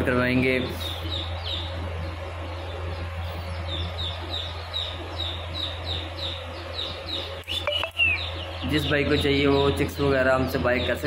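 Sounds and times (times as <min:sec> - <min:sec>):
chicks peeping: 0:00.0 - 0:11.0
steady low hum: 0:00.0 - 0:11.0.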